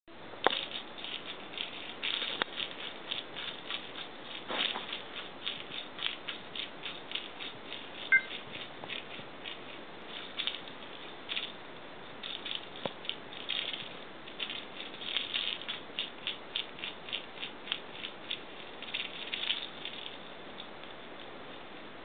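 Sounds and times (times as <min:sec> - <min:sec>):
cat claws scratching rope post: 0:00.5 - 0:21.3.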